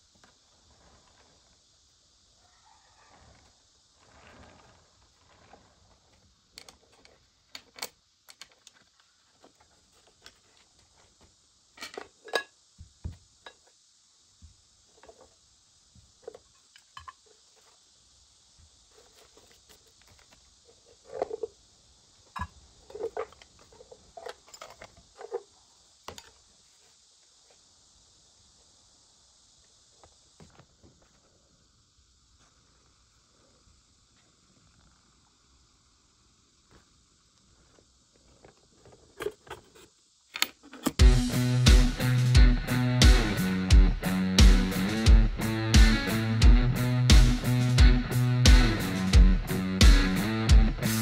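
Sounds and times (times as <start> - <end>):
faint steady hiss: 0.0 - 51.0.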